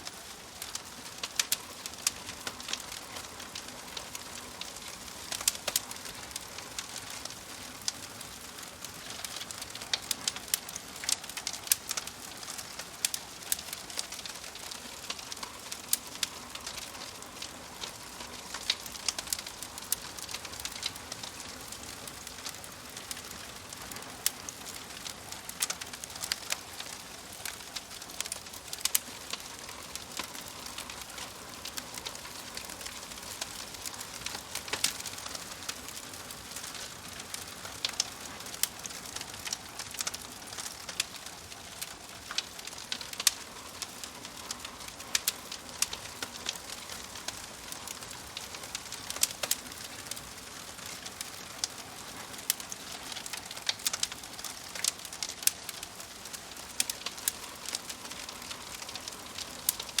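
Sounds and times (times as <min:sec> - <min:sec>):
burning logs popping and snapping: 0:00.0 - 1:00.0
wood fire hissing: 0:00.0 - 1:00.0.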